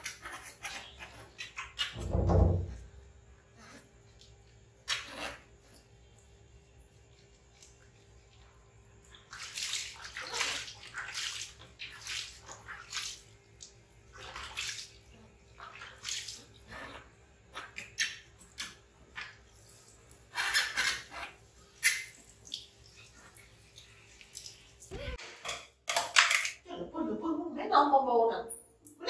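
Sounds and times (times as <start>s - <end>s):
water splashing and sloshing: 0.0s - 26.7s.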